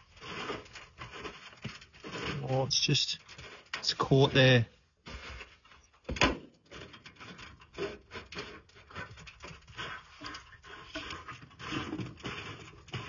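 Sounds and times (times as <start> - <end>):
rubbing and scraping on thin aluminium: 0.0 - 13.0.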